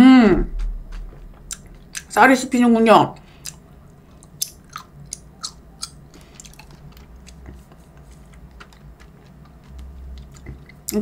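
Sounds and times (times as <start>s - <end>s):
person chewing: 0.5s - 2.1s, 3.2s - 11.0s.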